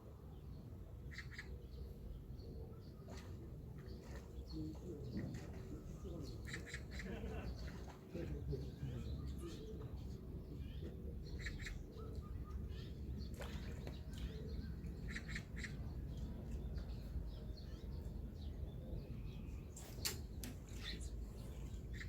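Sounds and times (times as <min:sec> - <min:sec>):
birds chirping: 0:00.4 - 0:22.0.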